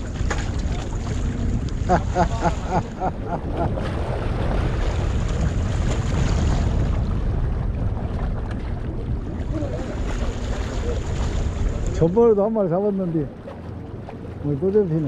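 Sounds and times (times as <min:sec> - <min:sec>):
sea washing against rocks: 0:00.0 - 0:12.5
wind buffeting microphone: 0:00.0 - 0:15.0.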